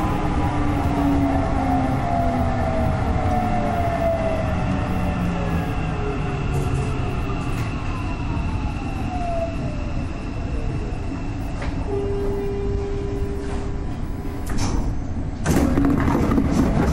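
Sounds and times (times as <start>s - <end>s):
steady tone: 0.0s - 14.5s
train running rumble: 0.0s - 16.9s.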